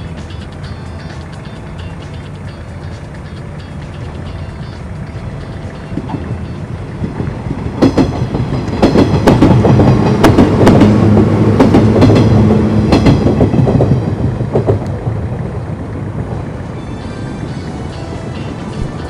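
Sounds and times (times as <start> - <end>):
train rumble with low hum: 0.0 - 19.0
wheels clacking over rail joints: 0.0 - 19.0.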